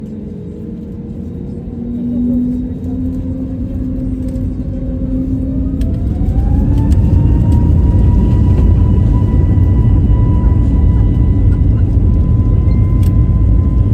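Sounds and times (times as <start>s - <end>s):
jet engines spooling up: 2.4s - 13.9s.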